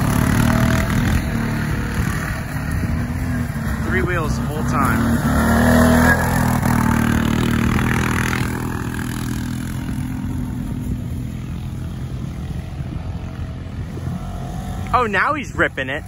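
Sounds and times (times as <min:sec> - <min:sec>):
quad engine running hard: 0:00.0 - 0:16.0.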